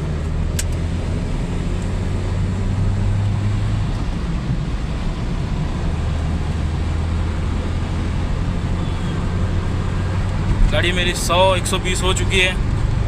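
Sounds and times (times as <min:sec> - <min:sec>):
car engine drone: 0:00.0 - 0:13.0
road and tyre noise: 0:00.0 - 0:13.0.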